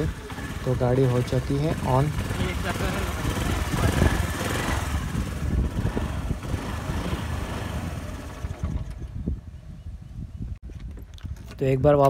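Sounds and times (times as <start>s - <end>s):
scooter engine idling: 0.0s - 9.9s.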